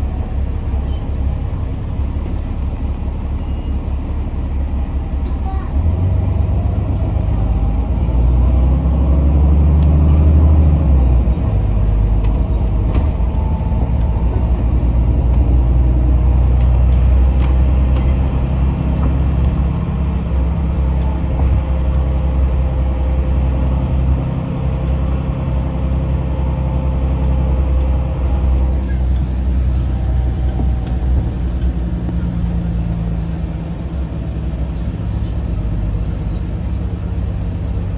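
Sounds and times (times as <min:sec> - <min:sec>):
bus engine and road rumble: 0:00.0 - 0:37.9.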